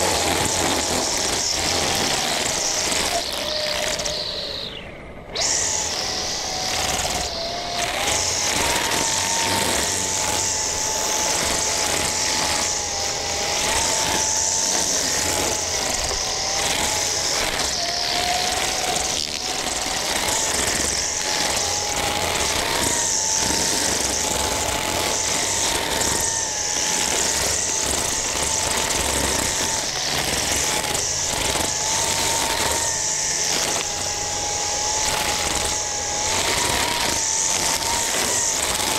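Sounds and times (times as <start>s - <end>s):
string trimmer cutting grass: 0.0s - 38.9s.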